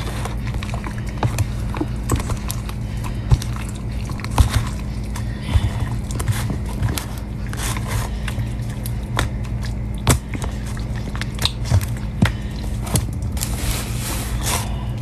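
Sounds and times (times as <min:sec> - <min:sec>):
hand squelching in wet batter: 0:00.0 - 0:15.0
steady low hum: 0:00.0 - 0:15.0.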